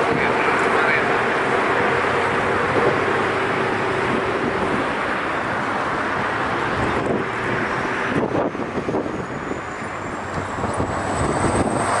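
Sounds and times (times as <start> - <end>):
ship rushing water noise: 0.0 - 12.0
wind on microphone: 1.6 - 12.0.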